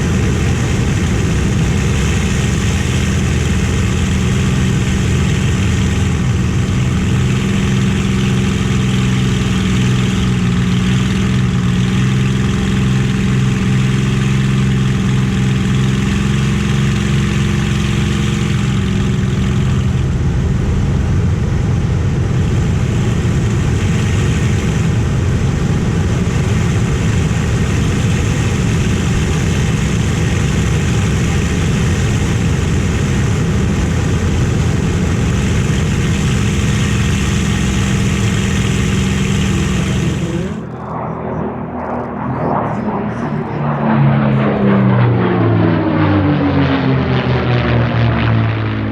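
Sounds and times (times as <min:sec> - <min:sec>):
aircraft engine droning: 0:00.0 - 0:48.9.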